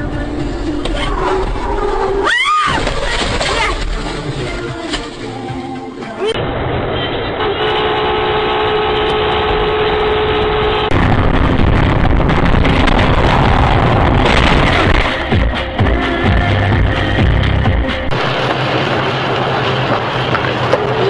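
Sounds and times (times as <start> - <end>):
traffic and engine noise: 0.0 - 2.3, 3.4 - 21.0.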